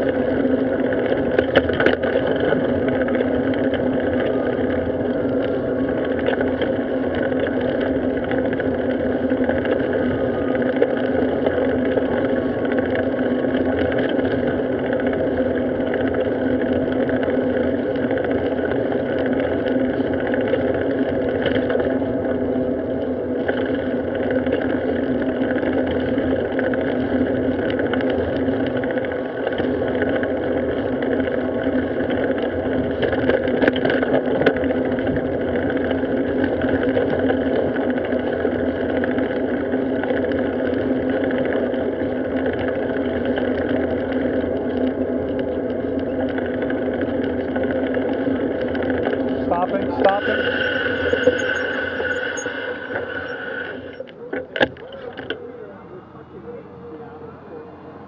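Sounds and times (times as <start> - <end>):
wind rush on microphone: 0.0 - 54.0
road noise: 0.0 - 58.0.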